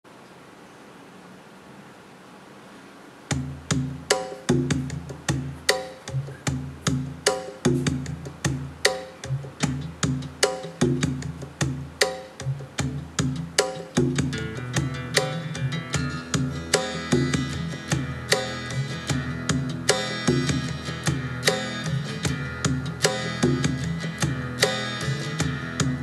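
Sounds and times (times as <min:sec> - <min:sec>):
faint hiss: 0:00.1 - 0:25.7
music through a speaker: 0:03.3 - 0:26.0.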